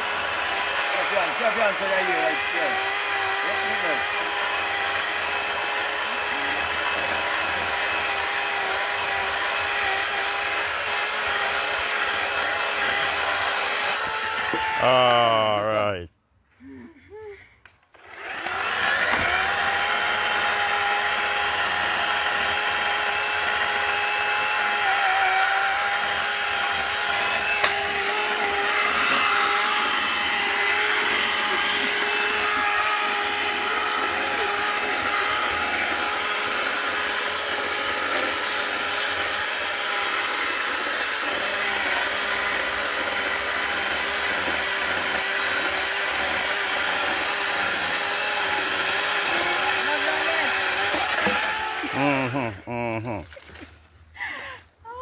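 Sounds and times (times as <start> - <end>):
chainsaw engine revving: 0.0 - 15.4, 18.0 - 52.8.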